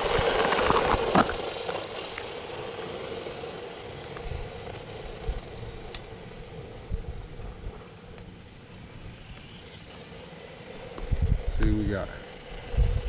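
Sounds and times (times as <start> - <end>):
electric rc car motor whining: 0.0 - 13.0.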